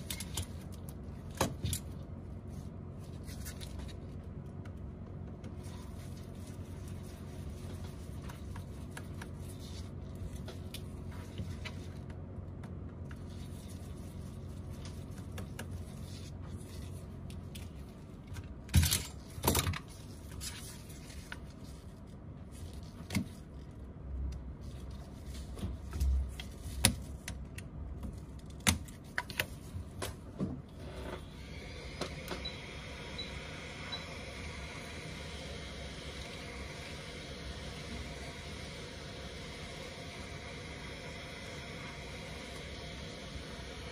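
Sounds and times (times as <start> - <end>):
low background hum: 0.0 - 43.9.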